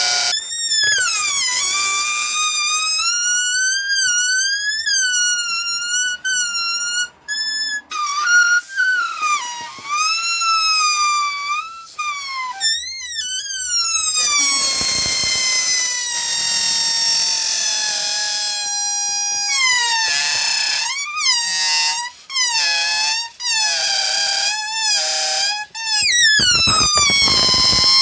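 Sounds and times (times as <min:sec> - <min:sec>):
balloon neck squealing: 0:00.0 - 0:28.0.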